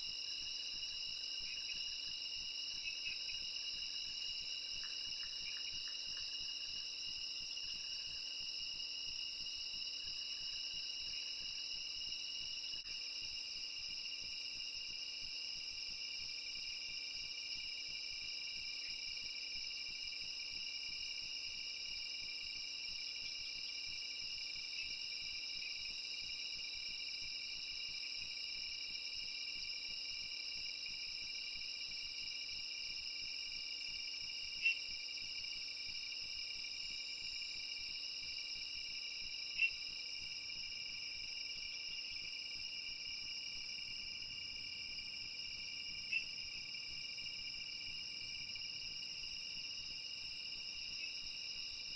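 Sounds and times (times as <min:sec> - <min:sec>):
loud insect chirp: 0:00.0 - 0:51.9
night insects trilling: 0:00.0 - 0:51.9.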